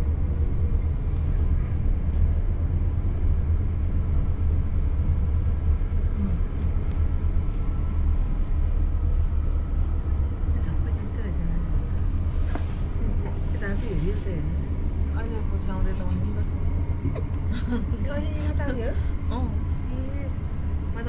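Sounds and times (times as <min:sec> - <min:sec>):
train carriage rumbling: 0:00.0 - 0:21.0.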